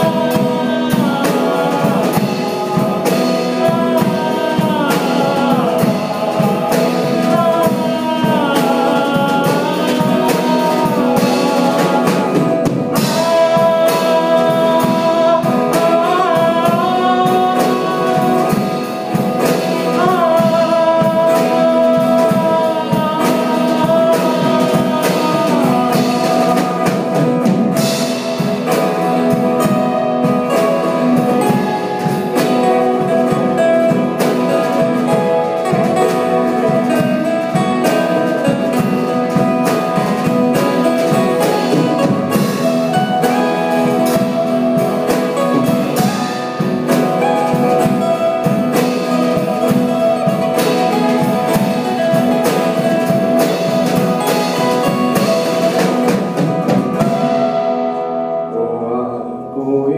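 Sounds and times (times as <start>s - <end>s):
band with drums: 0.0s - 59.7s
pop ballad singing: 0.0s - 59.9s.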